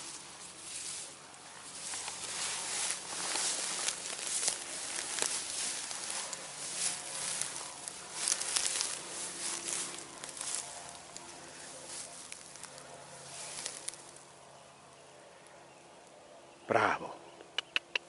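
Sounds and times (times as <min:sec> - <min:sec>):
stalks crackling underfoot: 0:00.0 - 0:14.6
footsteps through dry grass: 0:00.0 - 0:14.7.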